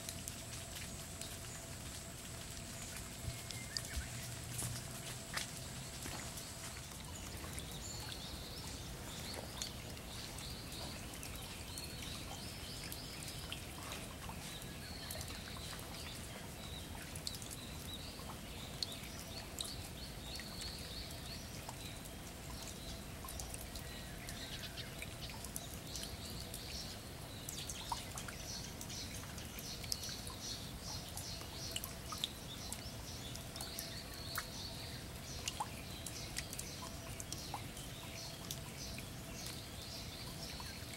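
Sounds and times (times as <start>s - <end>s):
rain drops plinking on puddle: 0.0s - 40.9s
small birds chirping: 0.0s - 40.9s.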